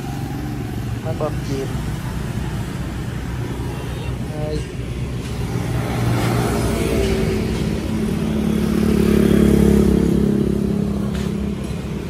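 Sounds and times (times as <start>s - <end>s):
motor vehicle passing: 0.0s - 12.0s.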